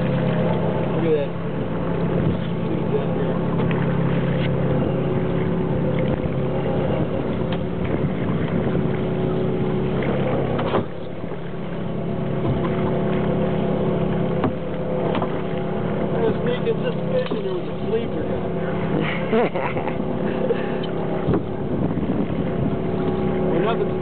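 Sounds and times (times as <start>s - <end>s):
boat engine running: 0.0s - 24.0s
knocks and clatter on boat: 0.0s - 24.0s.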